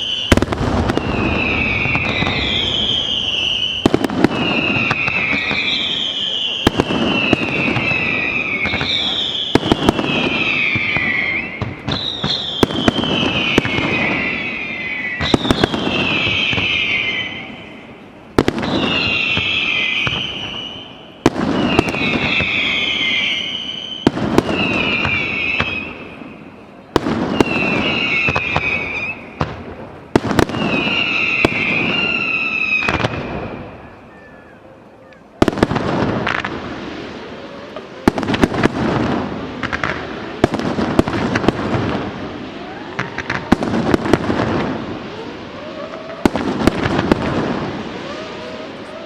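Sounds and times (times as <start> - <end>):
firework bangs: 0.0 - 34.7, 35.3 - 49.0
falling firework whistle: 0.0 - 49.0.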